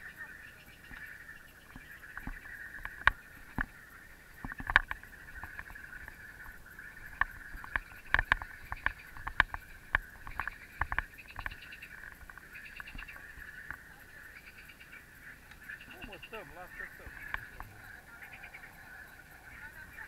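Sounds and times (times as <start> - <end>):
steady high-pitched hum: 0.0 - 20.0.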